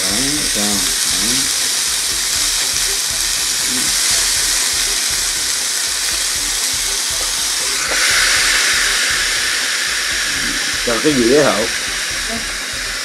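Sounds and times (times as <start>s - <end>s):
steak sizzling on grill: 0.0s - 13.0s.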